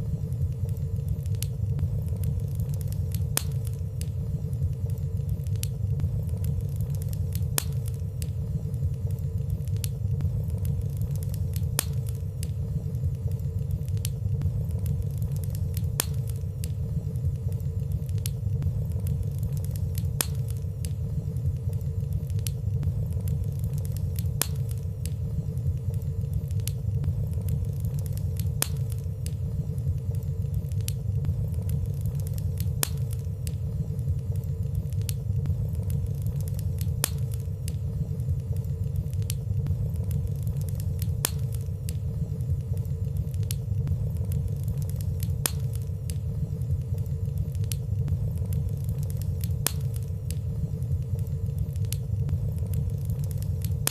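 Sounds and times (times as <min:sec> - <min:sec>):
fire crackling softly: 0:00.0 - 0:53.9
fire rumbling: 0:00.0 - 0:53.9.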